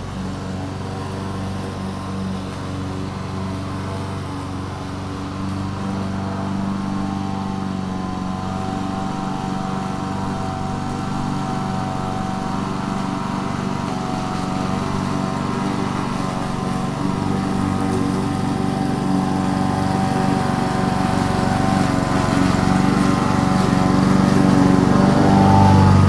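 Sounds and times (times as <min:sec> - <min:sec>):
lawn mower engine cutting grass: 0:00.0 - 0:26.0.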